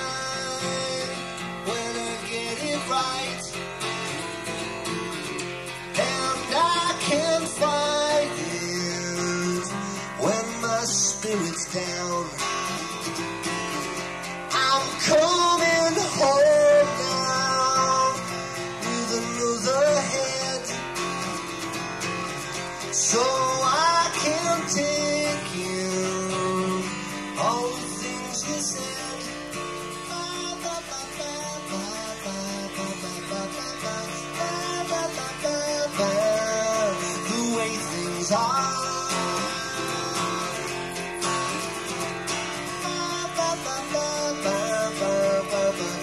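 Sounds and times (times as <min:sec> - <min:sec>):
person singing: 0:00.0 - 0:03.6, 0:06.0 - 0:13.1, 0:14.5 - 0:20.9, 0:22.8 - 0:29.4, 0:30.0 - 0:41.6, 0:42.6 - 0:46.0
guitar playing: 0:00.0 - 0:46.0.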